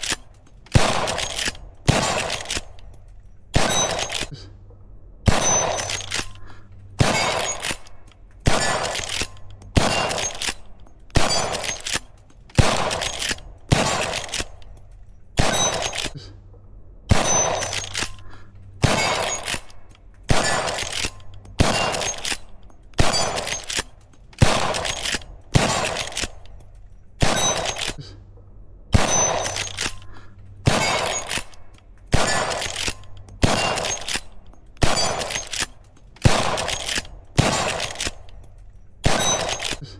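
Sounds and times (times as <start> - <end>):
rifle shots: 0.0 - 2.9, 3.5 - 4.4, 5.3 - 14.8, 15.4 - 16.2, 17.1 - 26.6, 27.2 - 28.1, 28.9 - 38.4, 39.0 - 39.9.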